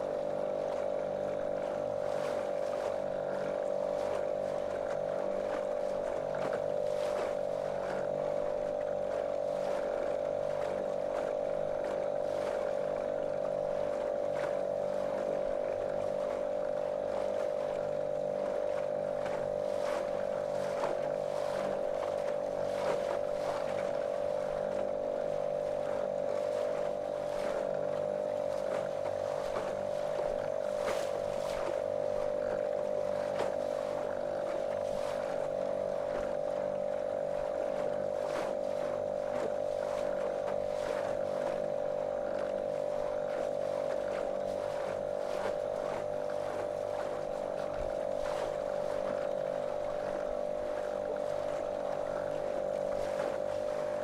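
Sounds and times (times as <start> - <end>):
outboard motor running: 0.0 - 54.0
water splashing against hull: 0.0 - 54.0.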